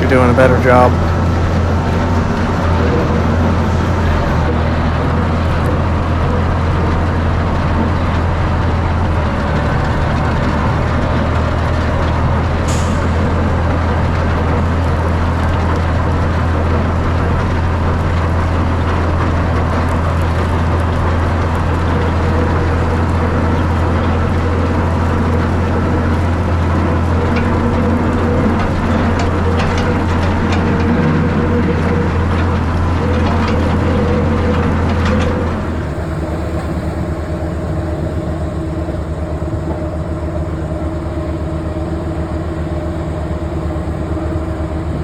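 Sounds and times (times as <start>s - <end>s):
manure spreader working: 0.0s - 45.0s
tractor engine running: 0.0s - 45.0s.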